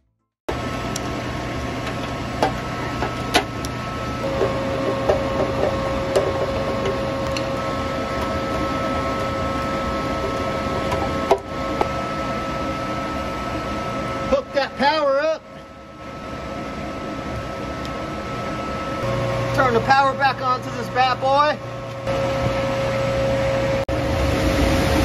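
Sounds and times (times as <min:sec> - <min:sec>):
machinery hum and whir: 0:00.5 - 0:25.0.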